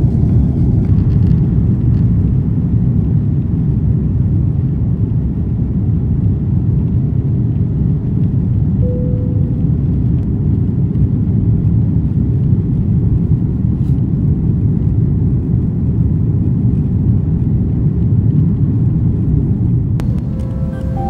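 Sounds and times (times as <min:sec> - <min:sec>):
jet engine rumble in cabin: 0:00.0 - 0:21.0.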